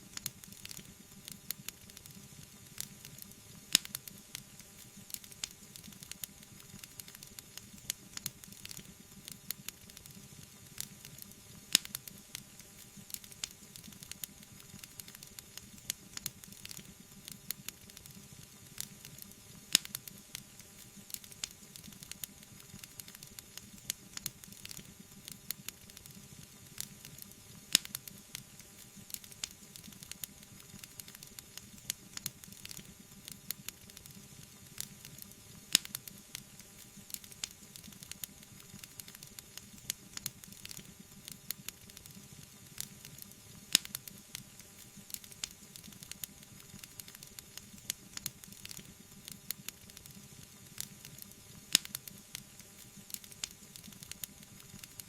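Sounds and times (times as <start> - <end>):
wood fire crackling: 0.0 - 55.0
fire popping: 0.1 - 26.2, 26.8 - 55.0.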